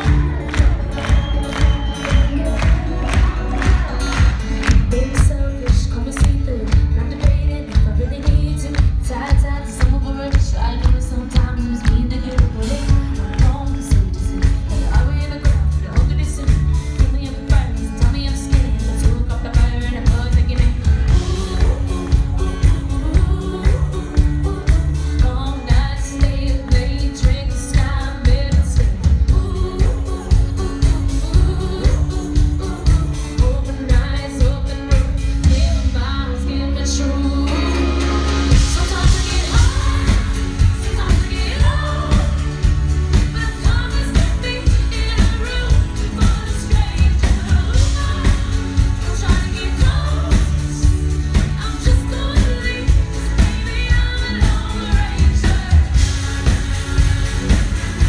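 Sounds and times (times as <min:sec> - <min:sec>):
woman singing: 0:00.0 - 0:57.1
pop band playing: 0:00.0 - 0:58.0.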